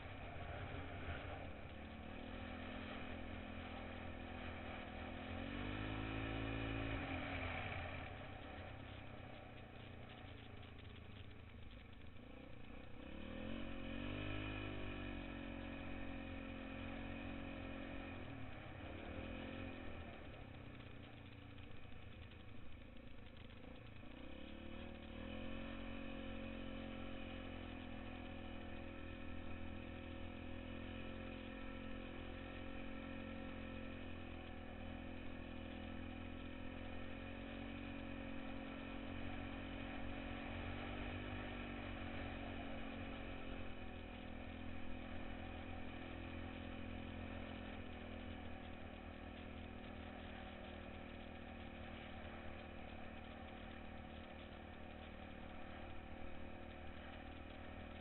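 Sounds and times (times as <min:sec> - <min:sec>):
small vehicle engine revving: 0:00.0 - 0:58.0.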